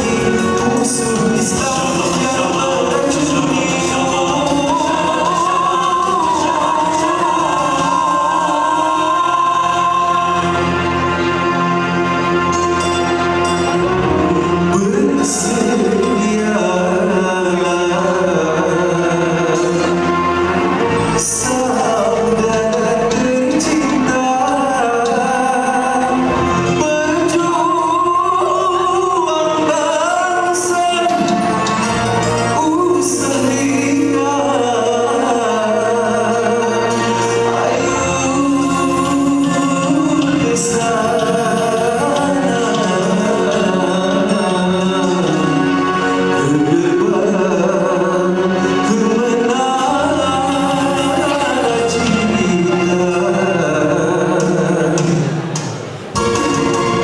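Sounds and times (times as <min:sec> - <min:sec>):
vocal group singing in harmony: 0:00.0 - 0:57.0.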